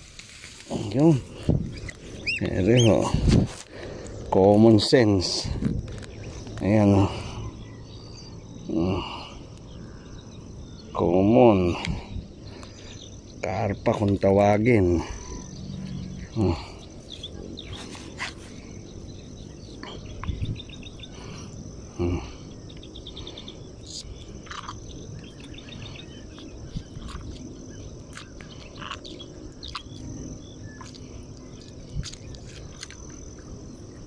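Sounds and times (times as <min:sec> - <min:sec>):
insects trilling: 0:00.0 - 0:34.0
bird calls: 0:00.7 - 0:34.0.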